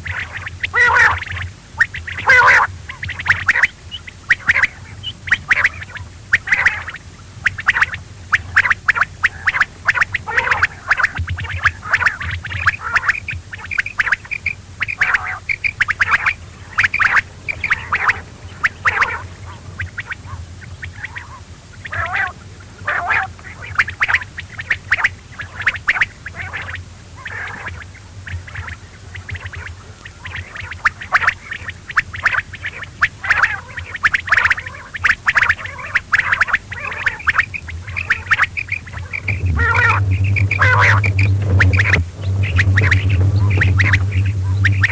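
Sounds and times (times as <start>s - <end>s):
quail calling: 0.0s - 44.9s
steady low hum: 0.0s - 44.9s.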